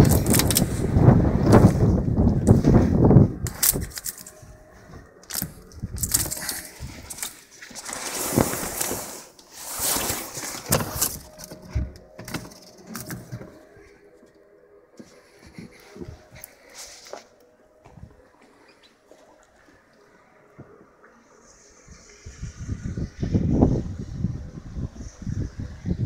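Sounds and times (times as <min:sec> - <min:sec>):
blizzard wind gusting: 0:00.0 - 0:19.1, 0:19.8 - 0:26.0.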